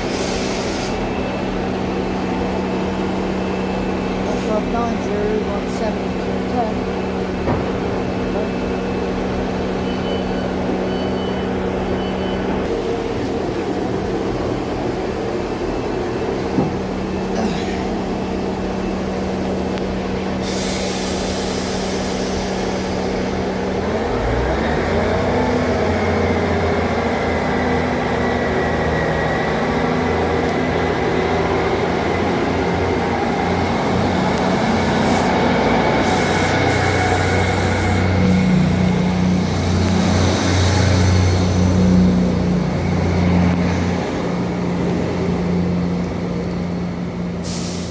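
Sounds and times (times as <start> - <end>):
train diesel engine running: 0.0 - 47.9.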